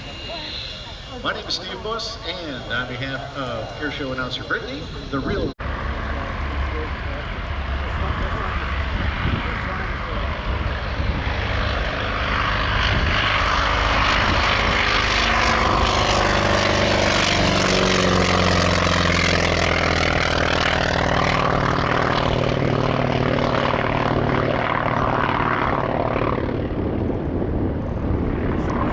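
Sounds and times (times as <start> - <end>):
propeller plane passing overhead: 0.0 - 28.9.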